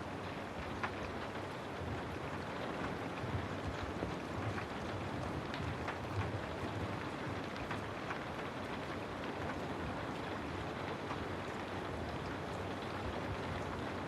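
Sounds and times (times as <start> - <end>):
rain hissing on window: 0.0 - 14.0.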